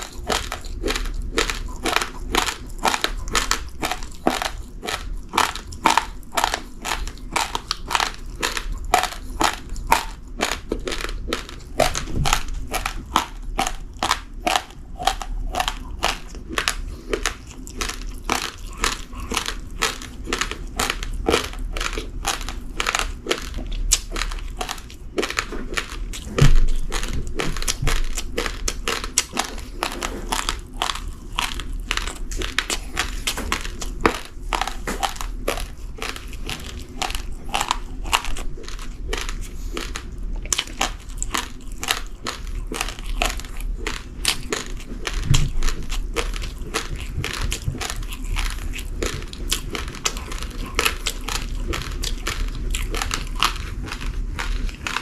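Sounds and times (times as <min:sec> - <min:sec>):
chewing crunchy rice grains: 0:00.0 - 0:55.0.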